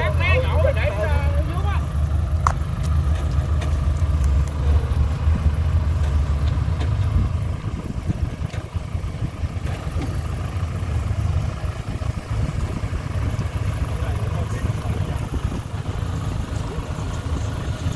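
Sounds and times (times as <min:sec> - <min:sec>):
combine harvester engine drone: 0:00.0 - 0:17.9.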